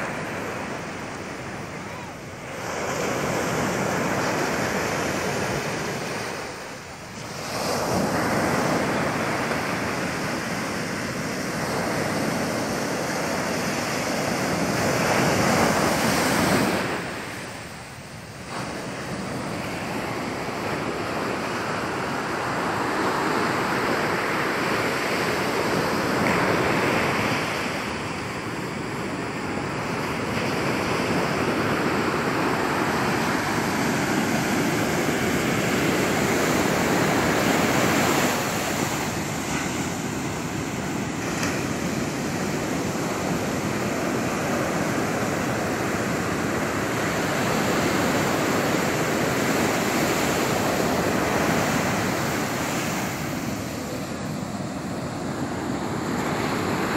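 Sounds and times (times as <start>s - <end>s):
sea surf breaking on beach: 0.0s - 56.9s.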